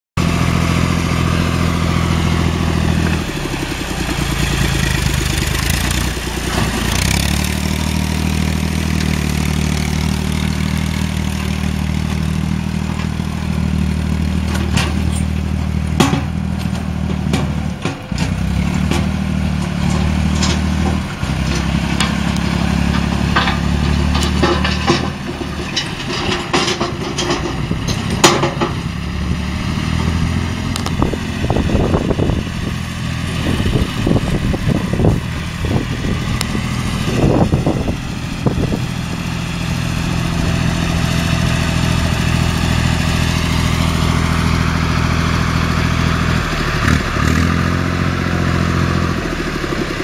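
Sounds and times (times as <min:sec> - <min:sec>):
tractor diesel engine running: 0:00.2 - 0:50.0.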